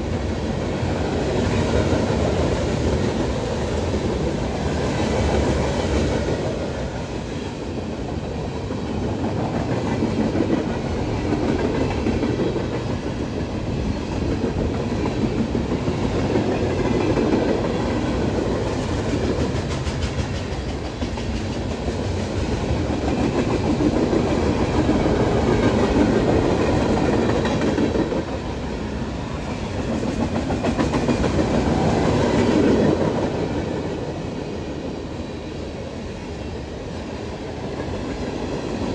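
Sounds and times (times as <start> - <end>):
freight train cars rolling past: 0.0 - 38.9.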